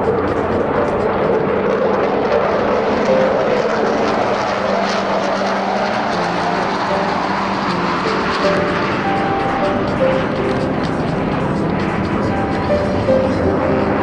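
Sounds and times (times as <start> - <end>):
airliner engines roaring: 0.0 - 14.0.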